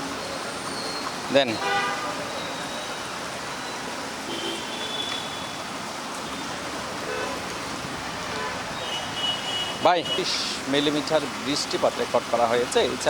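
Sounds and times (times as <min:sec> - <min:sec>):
rain rushing: 0:00.0 - 0:13.0
traffic noise: 0:00.0 - 0:13.0.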